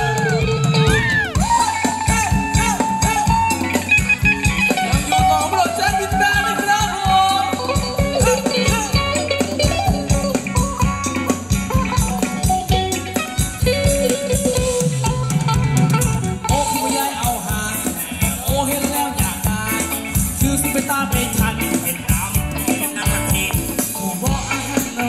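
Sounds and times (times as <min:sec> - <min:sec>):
live band dance music: 0:00.0 - 0:25.0
steady drum beat: 0:00.0 - 0:25.0.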